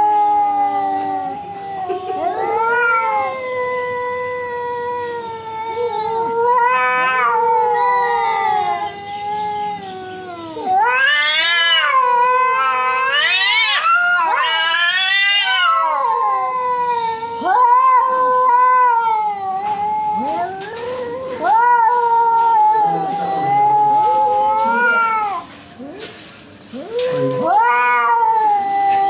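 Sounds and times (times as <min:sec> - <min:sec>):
cats yowling: 0:00.0 - 0:29.0.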